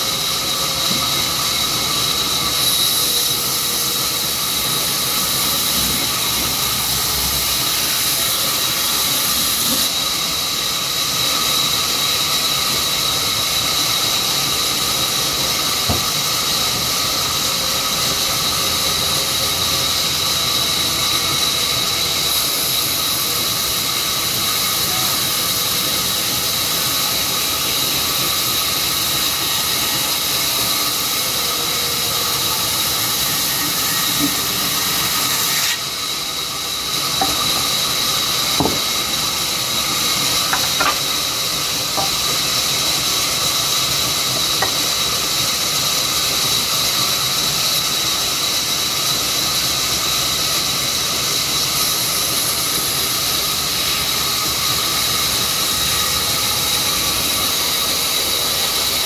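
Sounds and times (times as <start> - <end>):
saw whining through log: 0.0 - 59.0.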